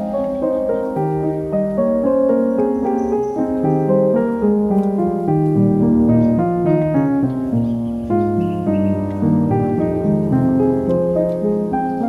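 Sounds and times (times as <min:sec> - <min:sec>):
keyboard melody: 0:00.0 - 0:12.0
low held keyboard notes: 0:00.0 - 0:12.0.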